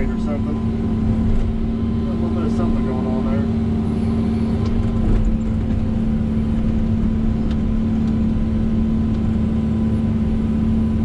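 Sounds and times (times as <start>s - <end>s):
excavator diesel engine drone: 0.0s - 11.0s.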